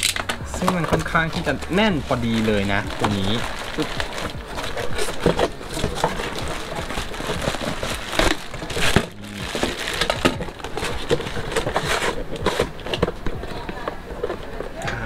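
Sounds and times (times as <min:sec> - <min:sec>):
packaging rustling and crinkling: 0:00.0 - 0:14.8
cardboard scraping and knocking: 0:00.2 - 0:14.6.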